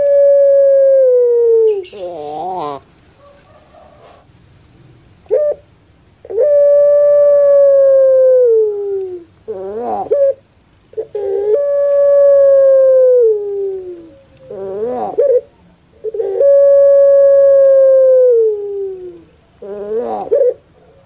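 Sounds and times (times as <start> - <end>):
dove cooing: 0.0 - 4.3, 5.2 - 21.0.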